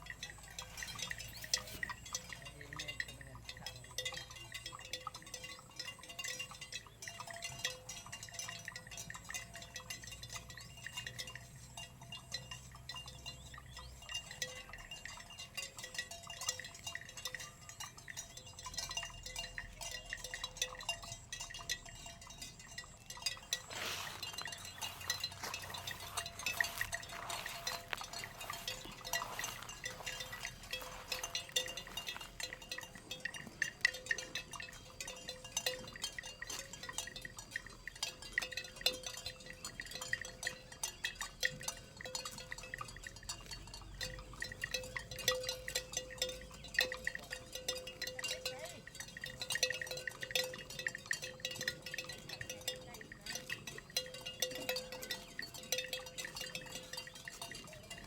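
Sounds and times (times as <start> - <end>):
animals feeding on grass: 0.0 - 58.0
small clinks and clicks: 0.0 - 58.0.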